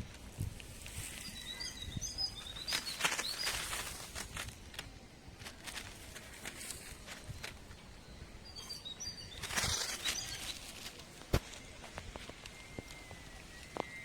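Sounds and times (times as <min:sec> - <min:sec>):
rustling: 0:00.0 - 0:07.8, 0:08.6 - 0:14.0.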